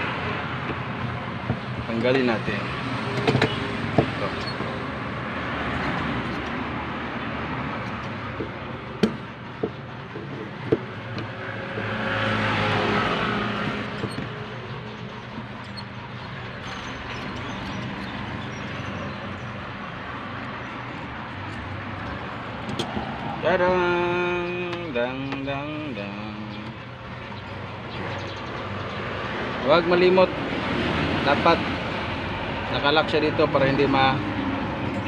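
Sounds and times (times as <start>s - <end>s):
vehicle passing: 0.0s - 25.0s, 27.0s - 35.0s
background traffic noise: 0.0s - 35.0s.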